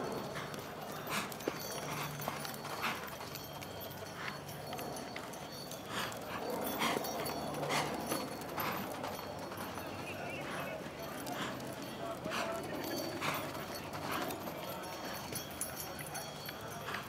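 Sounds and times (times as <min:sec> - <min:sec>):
horse hooves on arena ground: 0:00.0 - 0:17.0.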